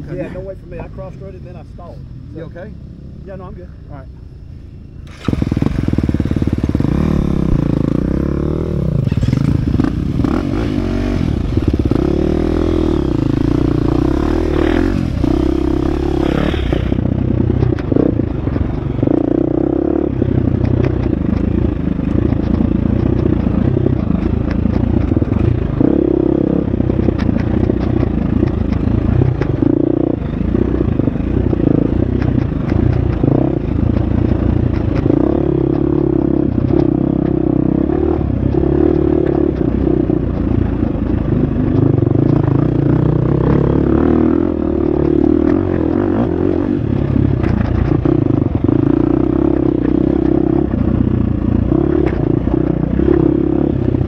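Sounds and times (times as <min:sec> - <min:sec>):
dirt bike engine revving: 0:05.0 - 0:54.0.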